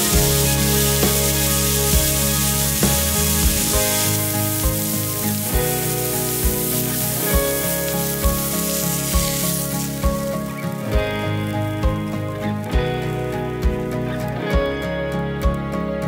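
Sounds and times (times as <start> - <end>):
steak sizzling on griddle: 0.0 - 14.1
background music with beat: 0.0 - 16.0.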